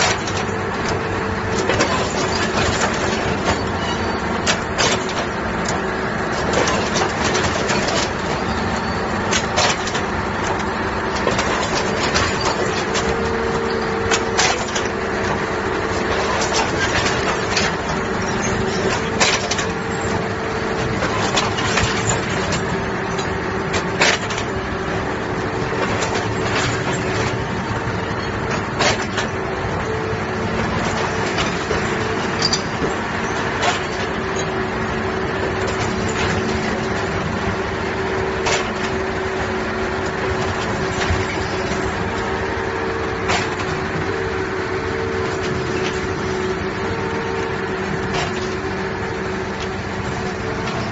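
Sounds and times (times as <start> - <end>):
heavy machinery droning hum: 0.0 - 50.9.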